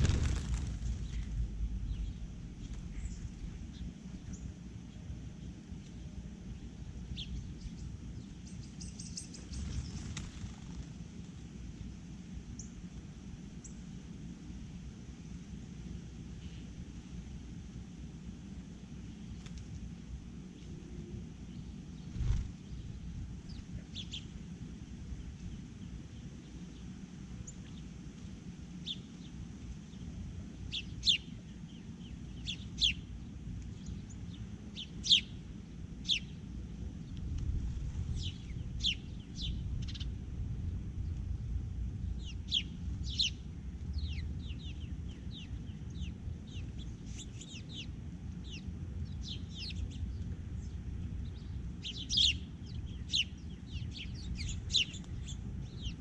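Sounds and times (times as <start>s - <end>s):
small birds chirping: 0.0s - 11.0s, 13.6s - 13.9s, 20.5s - 41.4s, 42.0s - 56.0s
steady low rumble: 0.0s - 14.3s, 19.0s - 26.7s, 29.2s - 56.0s.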